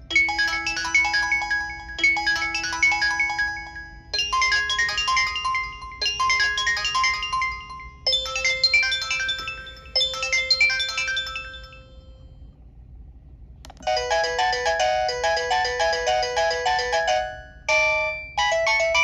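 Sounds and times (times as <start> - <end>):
cell phone ringtone melodies: 0.0 - 12.3, 13.9 - 19.0.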